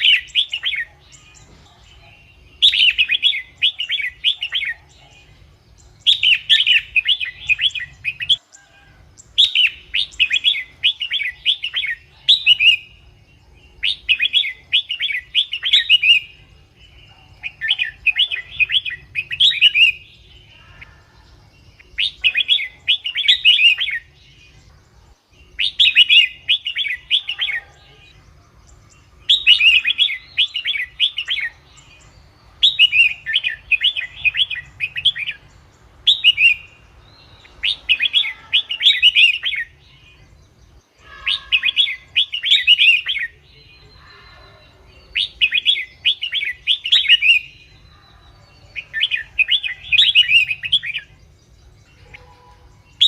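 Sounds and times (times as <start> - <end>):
bulbul singing chattering phrases: 0.0 - 53.0.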